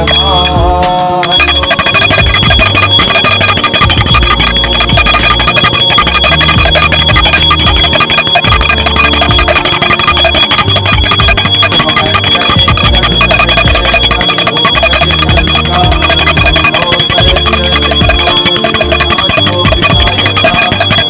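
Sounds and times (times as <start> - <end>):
bell ringing rapidly: 0.0 - 21.0.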